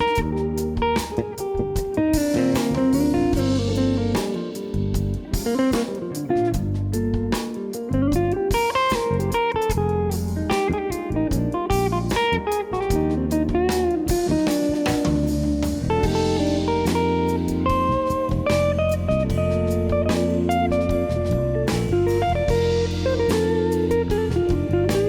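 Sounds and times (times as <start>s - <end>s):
guitar-led instrumental music: 0.0s - 25.0s.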